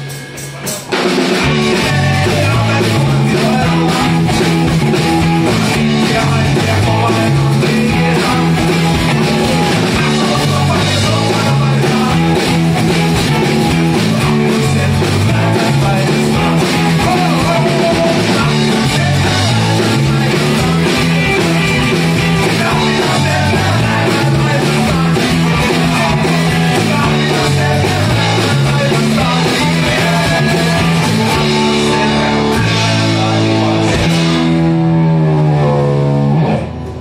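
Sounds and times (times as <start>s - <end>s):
electric bass: 0.0s - 37.0s
electric guitar: 0.0s - 37.0s
lead singer singing: 0.7s - 34.8s.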